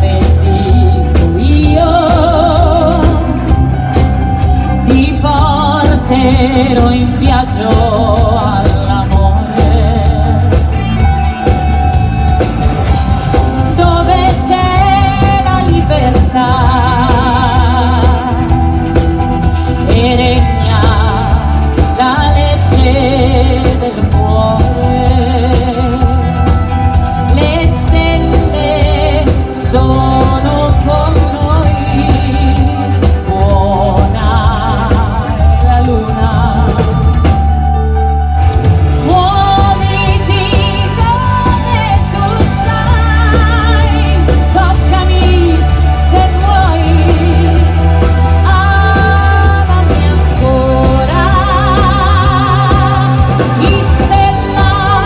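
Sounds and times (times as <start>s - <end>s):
woman singing with vibrato: 0.0s - 11.0s, 12.8s - 37.7s, 38.9s - 55.0s
bass guitar: 0.0s - 55.0s
drum kit: 0.0s - 55.0s
guitar: 0.0s - 55.0s
piano: 0.0s - 55.0s.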